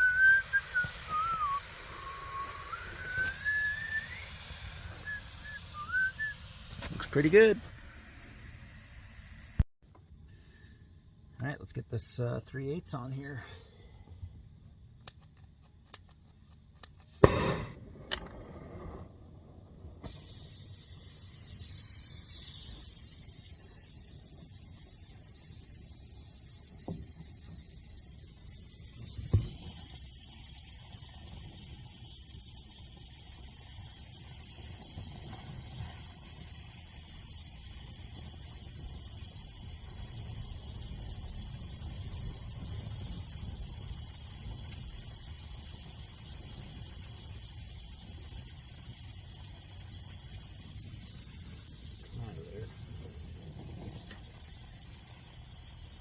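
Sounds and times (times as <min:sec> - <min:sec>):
torch flame hissing: 0:00.0 - 0:09.6, 0:17.2 - 0:56.0.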